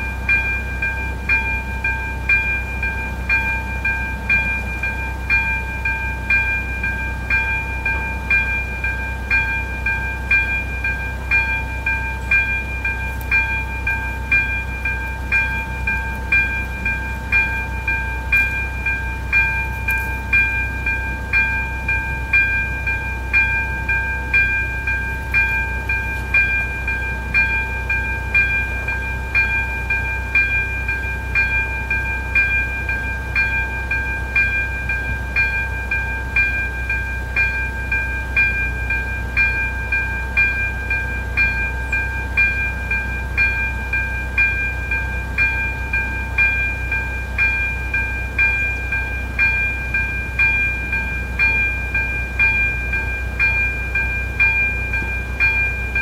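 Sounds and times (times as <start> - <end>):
level-crossing warning bell: 0.0 - 56.0.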